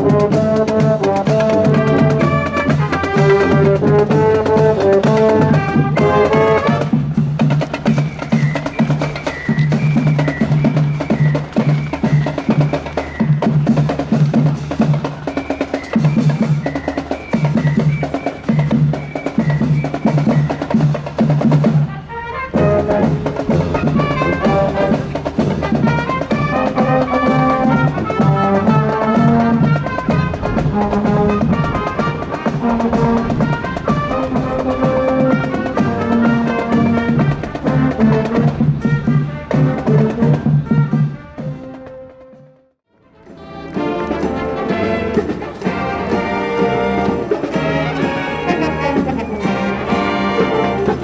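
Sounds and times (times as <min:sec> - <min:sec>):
drums playing: 0:00.0 - 0:42.6, 0:43.6 - 0:51.0
marching band playing: 0:00.0 - 0:51.0.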